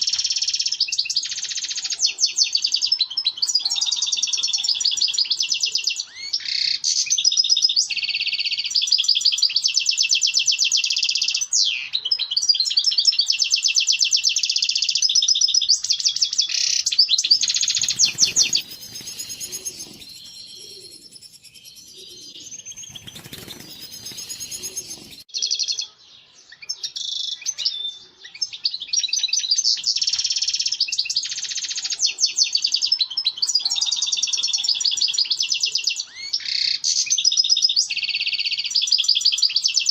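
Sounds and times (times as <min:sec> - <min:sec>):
goldfinch twittering song: 0:00.0 - 0:33.6.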